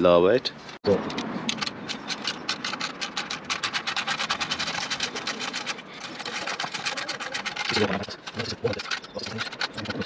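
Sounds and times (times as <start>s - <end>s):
ratchet wrench clicking rapidly: 1.5s - 10.0s.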